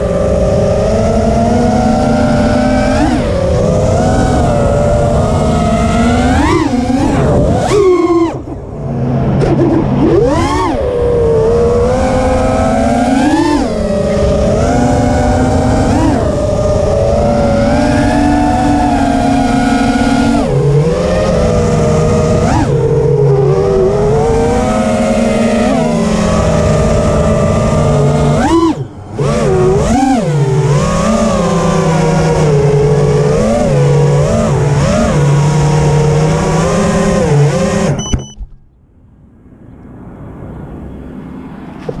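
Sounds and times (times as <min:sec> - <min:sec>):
drone motors whining: 0:00.0 - 0:38.8.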